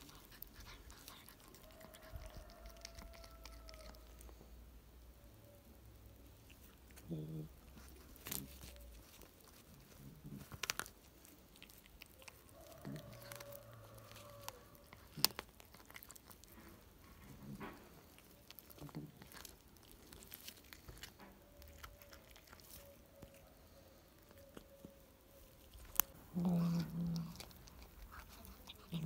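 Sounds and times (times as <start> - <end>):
cat chewing: 0.0 - 4.7, 6.0 - 29.0.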